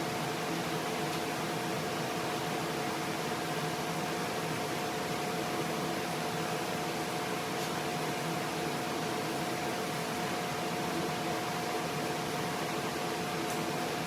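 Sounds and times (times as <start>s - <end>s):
machine hum with whine: 0.0s - 14.0s.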